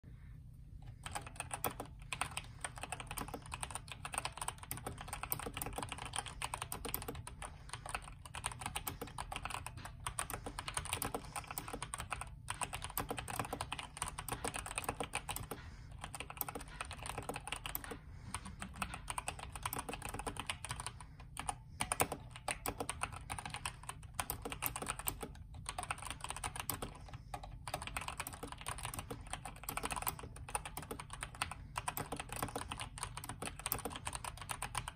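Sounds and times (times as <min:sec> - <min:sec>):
fast typing on mechanical keyboard: 0:00.9 - 0:34.9.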